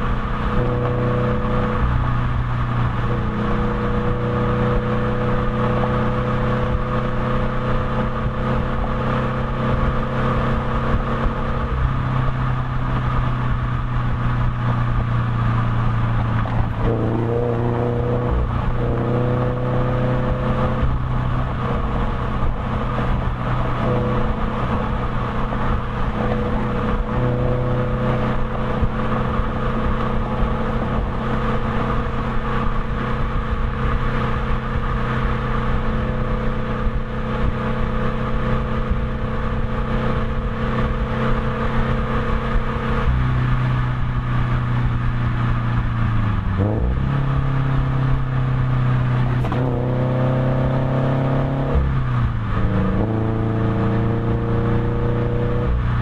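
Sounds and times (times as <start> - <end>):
car engine cruising: 0.0 - 56.0
road noise: 0.0 - 56.0.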